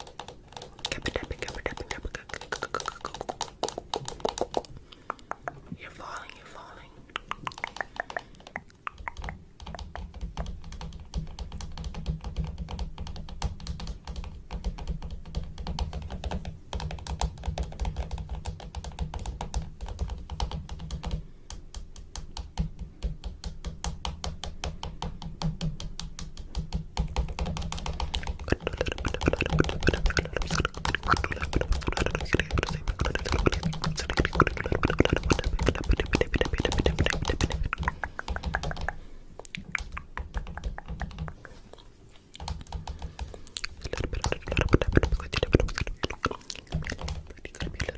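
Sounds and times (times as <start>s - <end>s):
fast dense clicks and taps: 0.0s - 5.6s, 7.2s - 41.6s, 42.3s - 47.9s
low steady hum: 0.0s - 47.9s.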